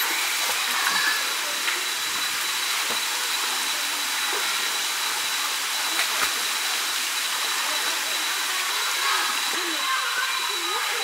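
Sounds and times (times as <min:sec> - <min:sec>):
stream water running over rocks: 0:00.0 - 0:11.0
thin high tone: 0:00.0 - 0:11.0.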